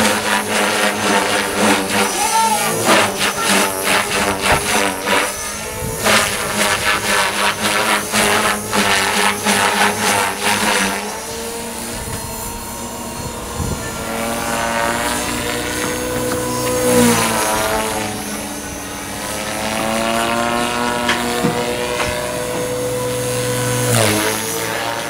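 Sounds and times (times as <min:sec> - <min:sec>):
rc helicopter rotor whining: 0:00.0 - 0:25.0.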